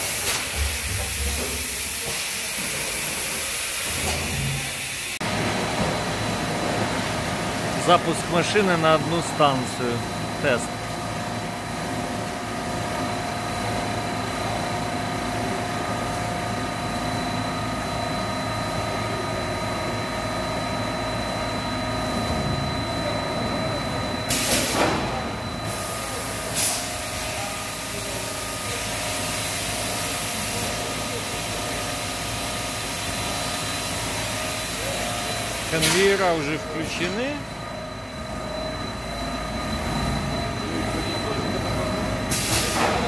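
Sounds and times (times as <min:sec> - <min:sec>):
machine hum with whining tones: 0:00.0 - 0:43.0.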